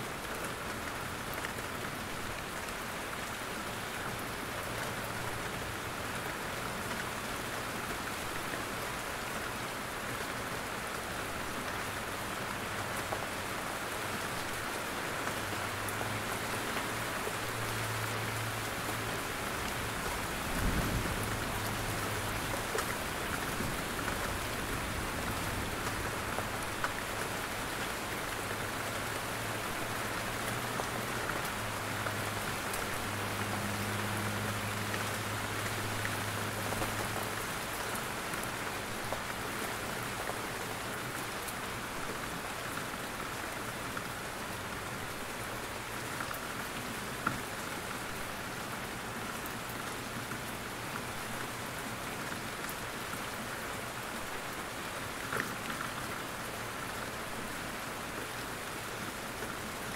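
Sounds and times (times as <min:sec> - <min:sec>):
steady rain in forest: 0:00.0 - 0:59.9.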